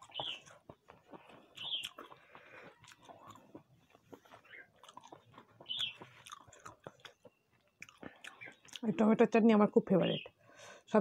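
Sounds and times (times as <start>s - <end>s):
person chewing food: 0.0s - 8.9s.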